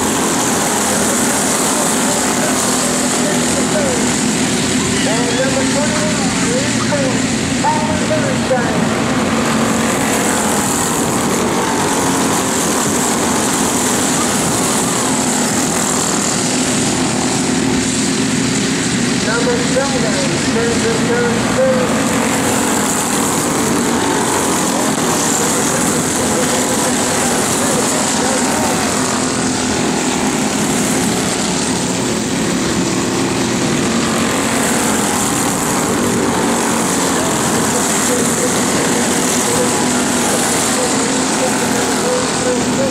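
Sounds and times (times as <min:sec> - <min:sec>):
go-kart engines buzzing: 0:00.0 - 0:42.9.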